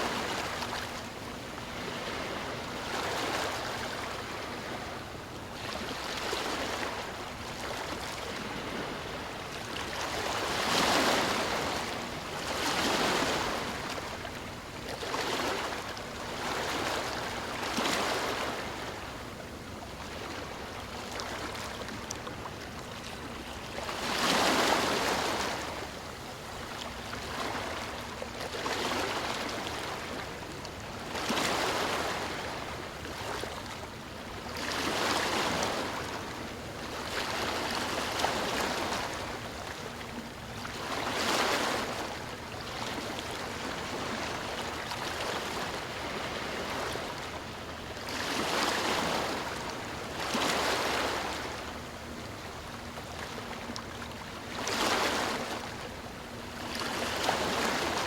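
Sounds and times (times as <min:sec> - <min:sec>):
sea waves breaking: 0:00.0 - 0:58.0.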